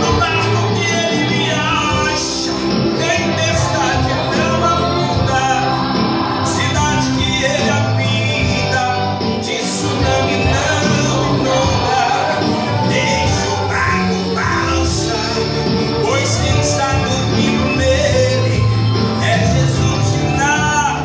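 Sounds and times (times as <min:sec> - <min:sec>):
instrumental backing over pa system: 0:00.0 - 0:21.0
man singing gospel song: 0:00.0 - 0:21.0.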